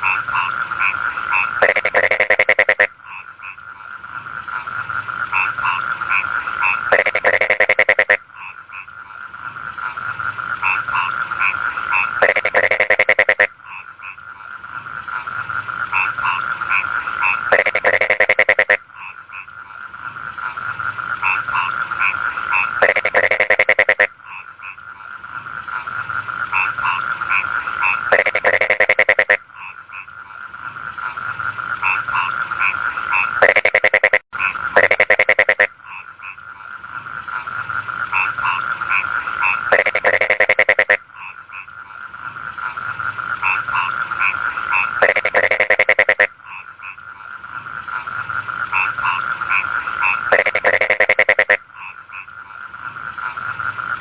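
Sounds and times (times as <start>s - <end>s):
frogs croaking rapidly: 0.0s - 54.0s
frogs trilling in chorus: 0.0s - 54.0s.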